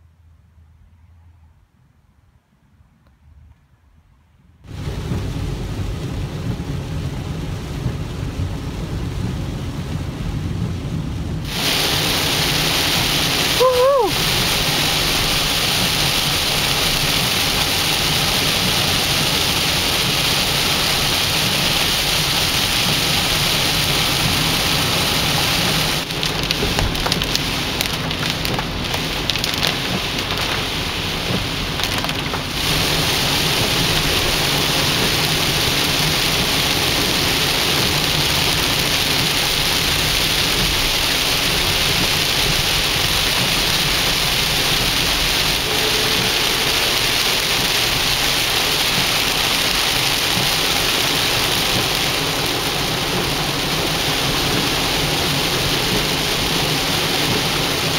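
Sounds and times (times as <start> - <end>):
heavy rain on moving car: 4.6 - 57.9.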